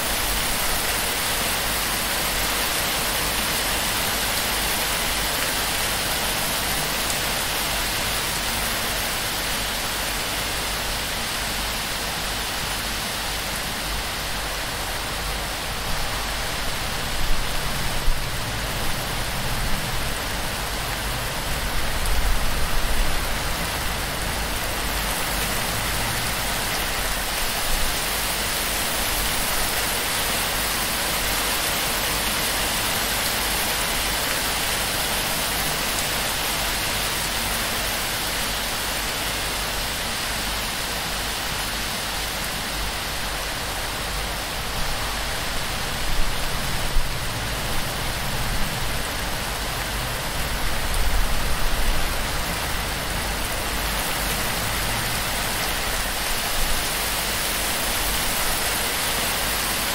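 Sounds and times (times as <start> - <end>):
heavy rain on thatch roof: 0.0 - 59.9.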